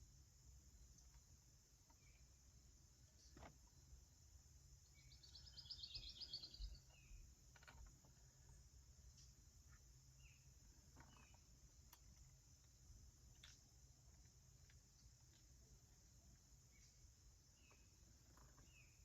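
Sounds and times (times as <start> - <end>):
faint bird chirps: 0.7 - 19.0.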